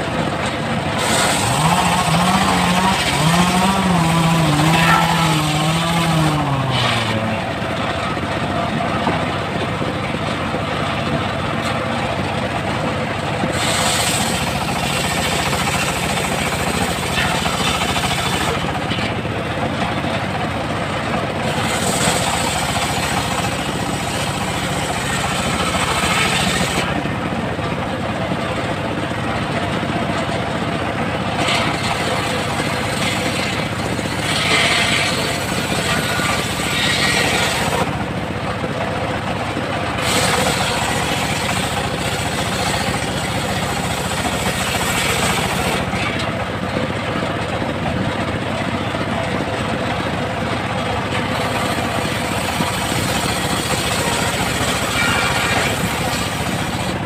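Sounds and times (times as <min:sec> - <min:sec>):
circular saw cutting log: 0:00.0 - 0:57.0.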